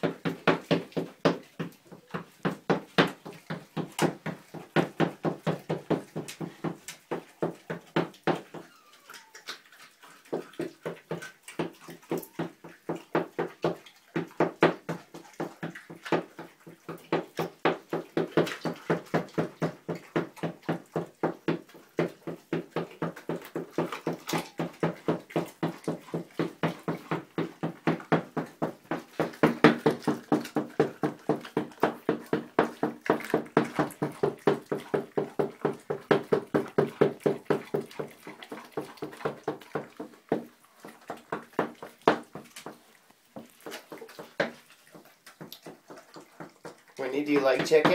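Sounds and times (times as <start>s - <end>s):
dog licking wet laps: 0.0s - 47.9s.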